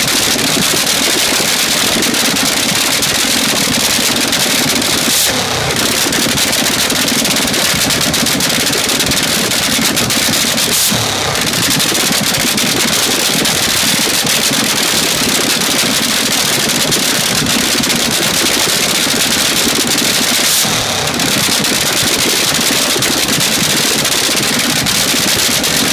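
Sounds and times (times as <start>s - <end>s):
dragster engine crackling at idle: 0.0s - 25.9s.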